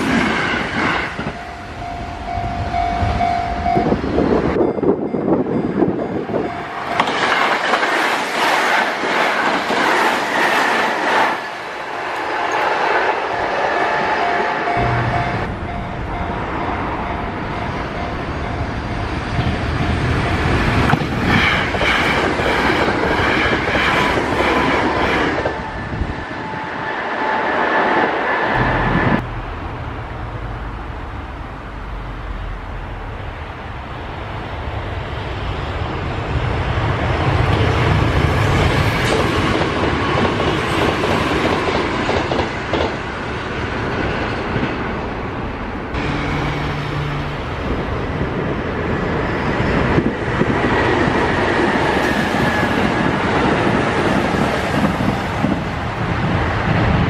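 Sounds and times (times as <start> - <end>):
trains passing at high speed: 0.0 - 57.0.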